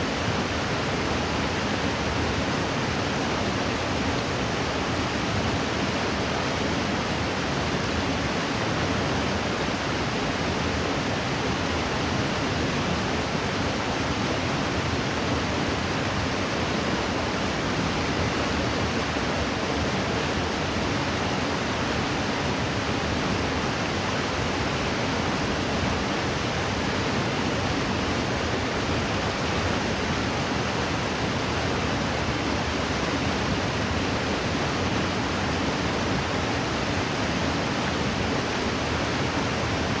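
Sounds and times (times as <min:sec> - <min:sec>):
river water rushing: 0:00.1 - 0:40.0.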